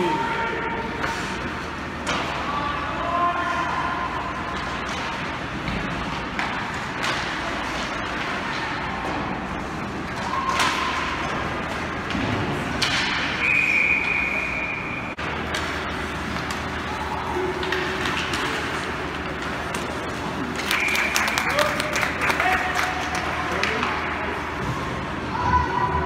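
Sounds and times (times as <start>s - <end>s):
hockey game din: 0.0s - 26.0s.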